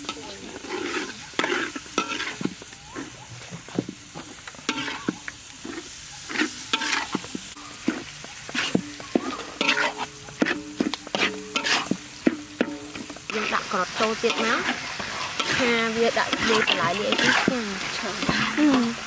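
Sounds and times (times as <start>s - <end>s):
frying sizzle: 0.0s - 19.0s
metal spatula scraping a wok: 0.0s - 19.0s.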